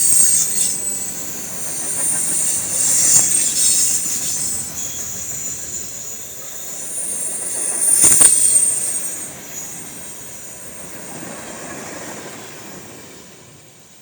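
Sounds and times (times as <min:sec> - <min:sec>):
railcars rumbling: 0:00.0 - 0:14.0
train wheels squealing: 0:00.0 - 0:14.0.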